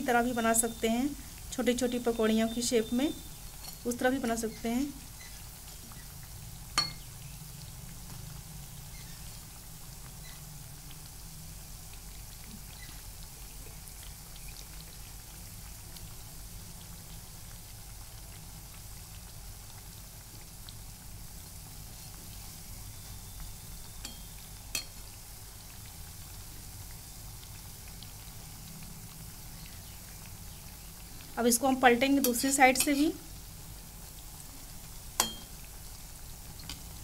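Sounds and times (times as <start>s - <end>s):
faint oil crackles: 0.0s - 37.0s
fritters sizzling in hot oil: 0.0s - 37.0s.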